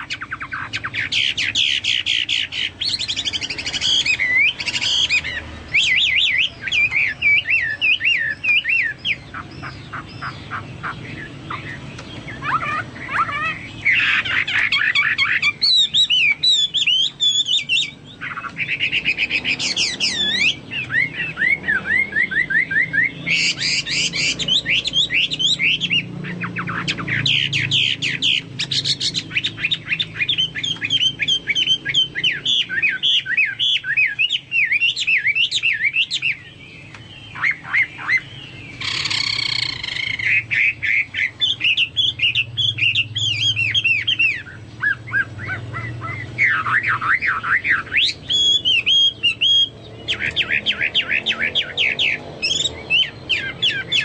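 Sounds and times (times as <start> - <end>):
bird singing whistled trills: 0.0 - 54.0.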